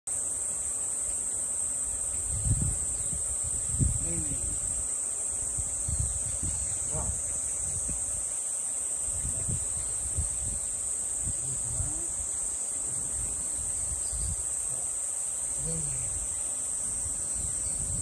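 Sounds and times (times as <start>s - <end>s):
high-pitched insect chorus buzzing: 0.1s - 18.0s.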